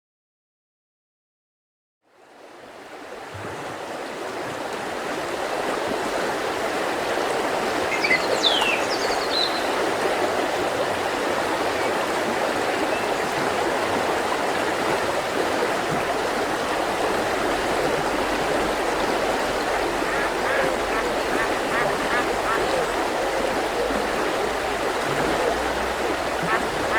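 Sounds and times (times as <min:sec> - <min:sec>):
mountain river flowing: 0:02.2 - 0:26.9.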